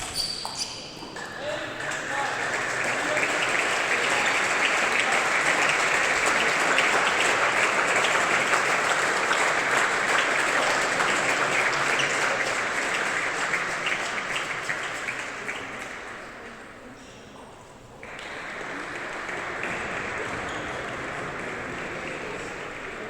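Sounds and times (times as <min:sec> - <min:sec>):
audience applauding: 0:01.4 - 0:16.4, 0:18.0 - 0:23.0.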